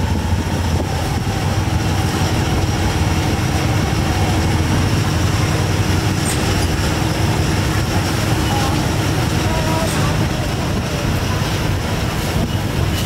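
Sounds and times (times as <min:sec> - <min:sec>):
loud rumbling market noise: 0:00.0 - 0:13.0.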